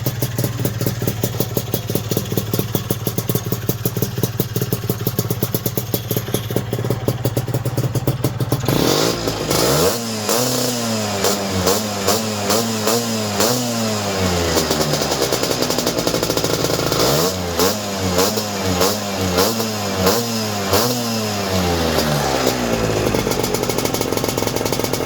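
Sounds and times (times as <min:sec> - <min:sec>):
scooter engine idling and revving: 0:00.0 - 0:25.0.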